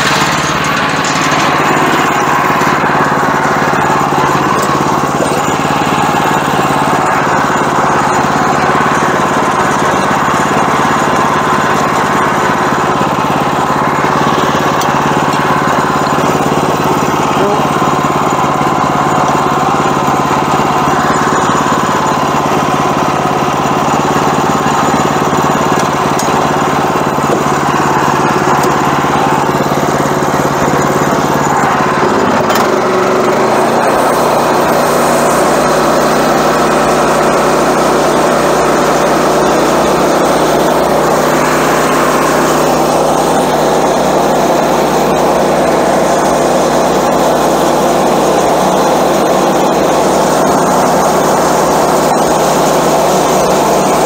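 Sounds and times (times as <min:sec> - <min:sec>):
gas engine running: 0:00.0 - 0:54.0.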